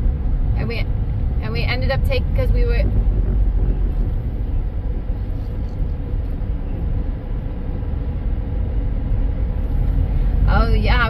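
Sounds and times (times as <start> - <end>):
car interior road and engine noise: 0.0 - 11.0.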